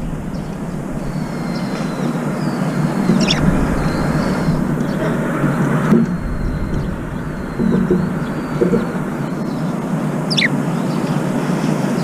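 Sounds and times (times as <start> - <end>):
wavering bird call: 0.0 - 11.3
distant city traffic rumble: 0.0 - 12.0.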